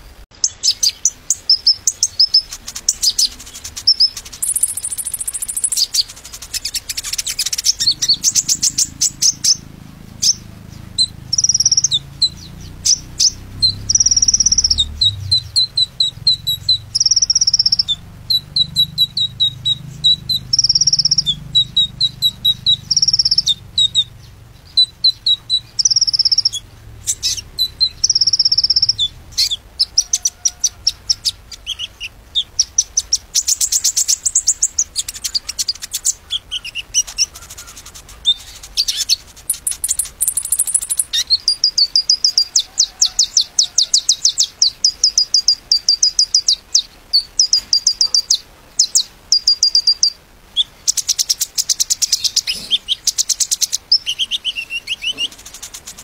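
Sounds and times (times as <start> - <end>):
bird singing high trills: 0.4 - 50.2.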